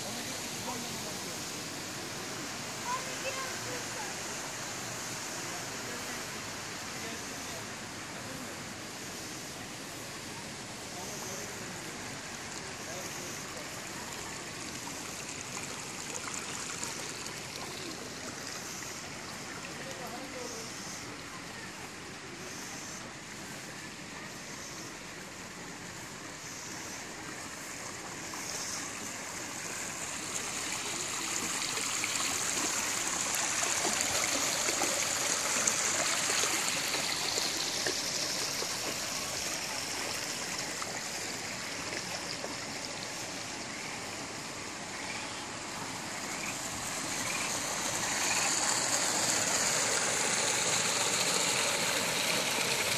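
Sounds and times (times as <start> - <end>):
waterfall pouring into pond: 0.0 - 22.4, 27.0 - 52.9.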